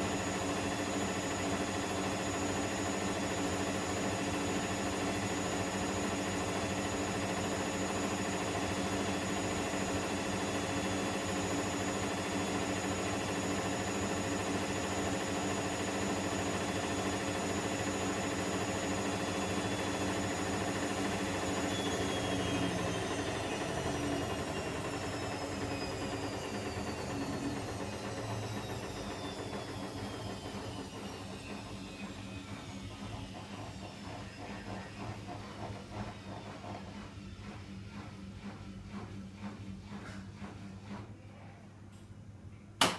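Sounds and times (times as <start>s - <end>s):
washing machine spinning: 0.0s - 42.9s.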